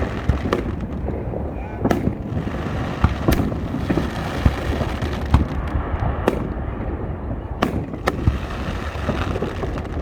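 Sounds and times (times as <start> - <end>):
firework bangs: 0.0 - 10.0
low rumble of bursts: 0.0 - 10.0.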